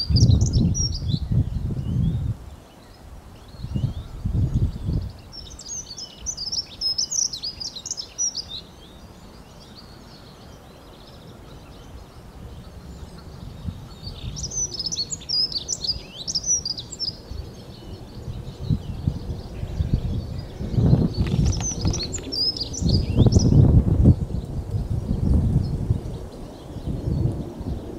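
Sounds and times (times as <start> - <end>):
bird warbling song: 0.0 - 27.9.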